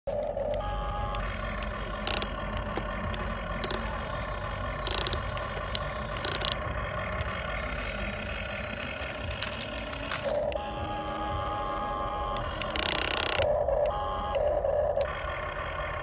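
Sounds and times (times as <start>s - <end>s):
electric gear motors whining: 0.1s - 16.0s.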